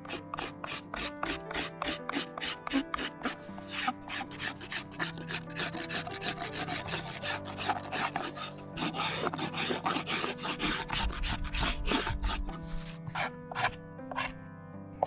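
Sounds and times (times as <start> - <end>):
knife scraping wood: 0.0 - 14.4.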